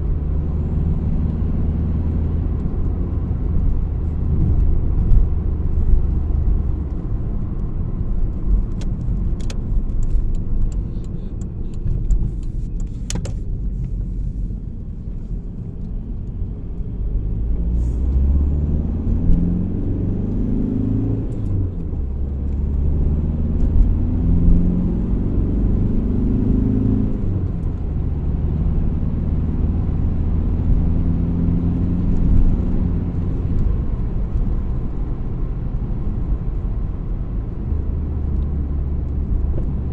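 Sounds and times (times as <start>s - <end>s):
diesel car engine accelerating: 0.0s - 39.9s
low road rumble: 0.0s - 39.9s.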